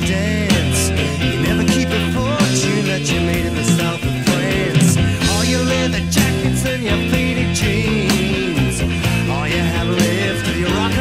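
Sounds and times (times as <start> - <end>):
drums steady beat: 0.0 - 11.0
guitars bending notes: 0.0 - 11.0
rock band playing: 0.0 - 11.0.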